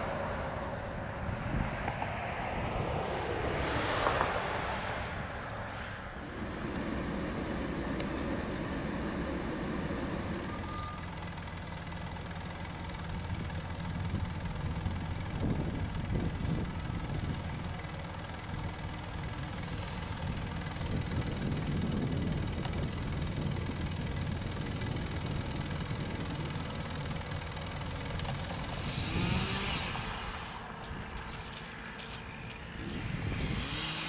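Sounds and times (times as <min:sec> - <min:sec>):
car engine idling: 0:05.0 - 0:33.2.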